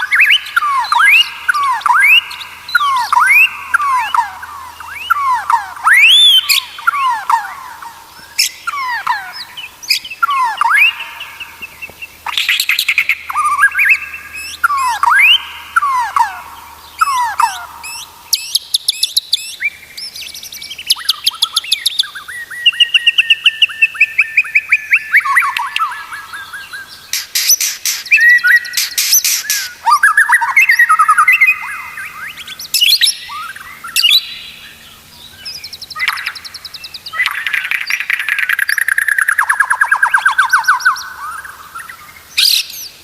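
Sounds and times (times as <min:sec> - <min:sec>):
bird singing whistled phrases: 0:00.0 - 0:43.0.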